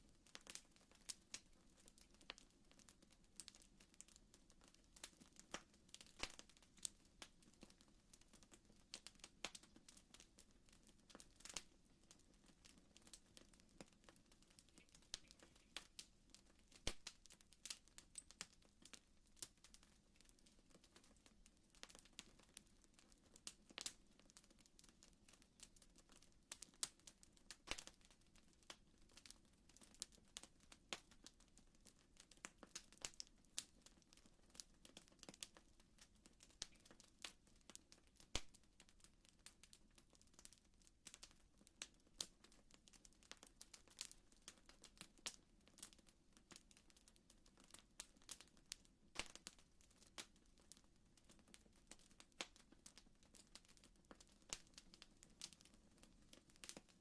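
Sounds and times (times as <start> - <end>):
low steady hiss: 0.0 - 57.0
fire crackling with pops: 0.1 - 57.0.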